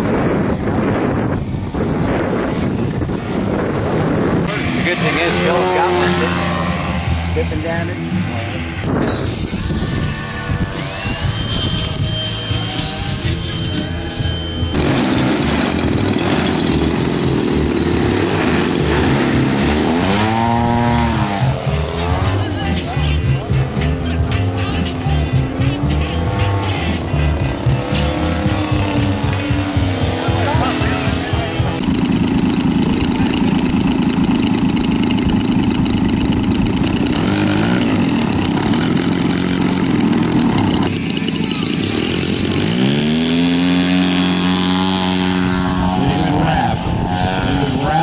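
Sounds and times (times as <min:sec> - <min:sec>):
model airplane engine running: 0:00.0 - 0:08.0, 0:08.8 - 0:22.8, 0:27.5 - 0:48.0.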